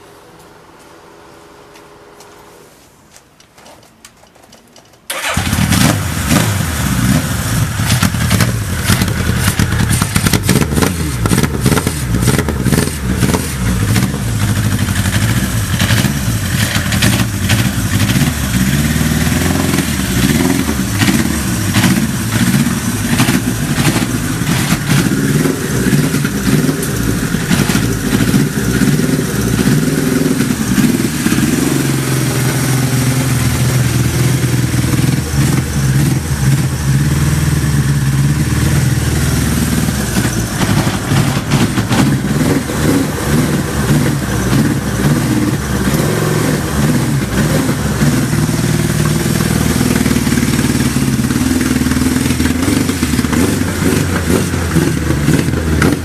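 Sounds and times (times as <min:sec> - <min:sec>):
motorcycle engine revving: 0:05.1 - 0:56.0.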